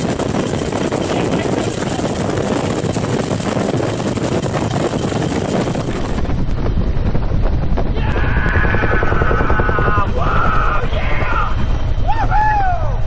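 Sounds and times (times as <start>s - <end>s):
helicopter rotor and engine: 0.0s - 13.0s
wind buffeting microphone: 0.0s - 13.0s.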